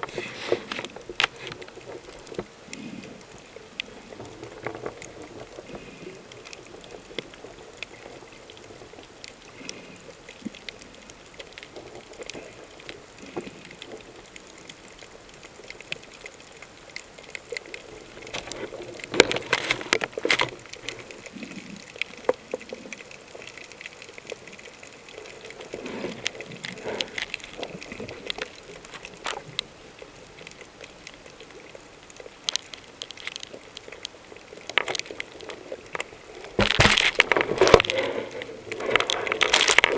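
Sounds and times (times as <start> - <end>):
low water hiss: 0.0 - 39.9
underwater clicks and crackles: 0.0 - 39.9
water gurgling: 0.0 - 39.9.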